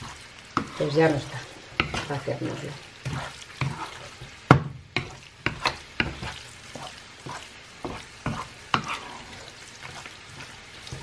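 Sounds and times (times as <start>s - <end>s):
vegetables sizzling: 0.0s - 11.0s
wooden spoon scraping a pan: 0.0s - 11.0s.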